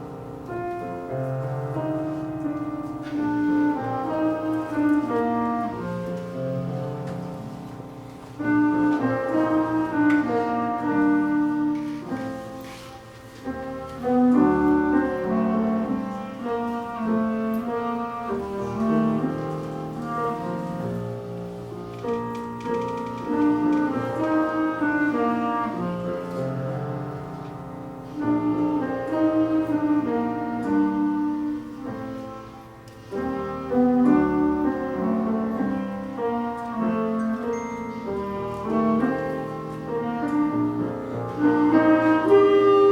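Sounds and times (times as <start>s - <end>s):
clarinet melody: 0.0s - 42.9s
piano accompaniment: 0.0s - 42.9s.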